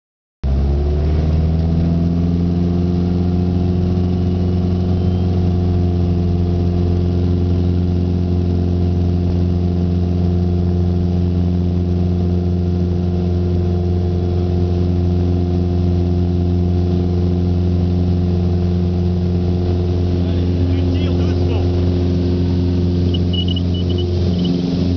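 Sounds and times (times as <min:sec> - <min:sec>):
plane engine droning: 0:00.5 - 0:24.9.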